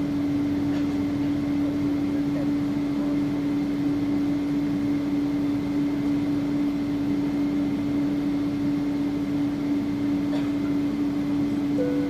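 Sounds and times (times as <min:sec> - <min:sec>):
airliner engines and cabin air hum: 0:00.0 - 0:12.0.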